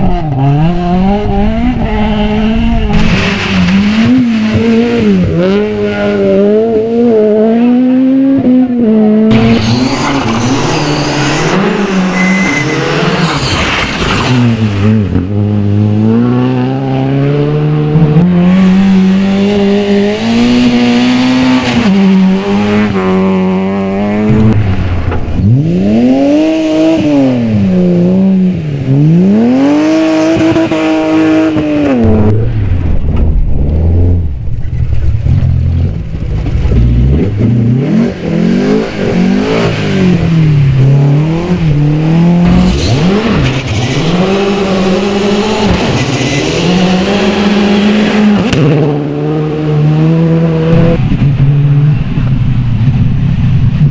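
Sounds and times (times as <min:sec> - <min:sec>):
rally car engines revving: 0:00.0 - 0:53.9.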